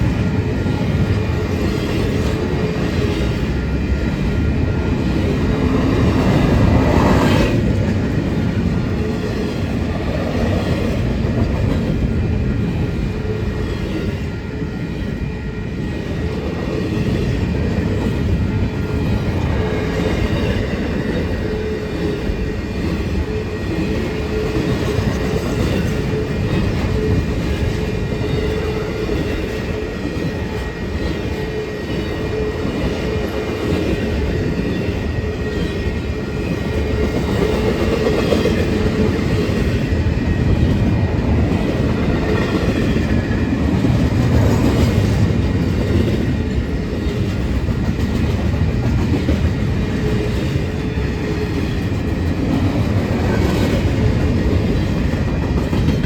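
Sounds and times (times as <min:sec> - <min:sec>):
freight train cars rumbling: 0:00.0 - 0:56.0.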